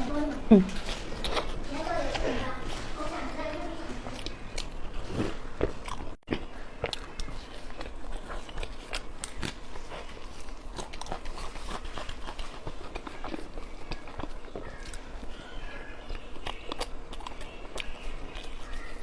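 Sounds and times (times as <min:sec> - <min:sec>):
chewing and biting food: 0:00.0 - 0:19.0.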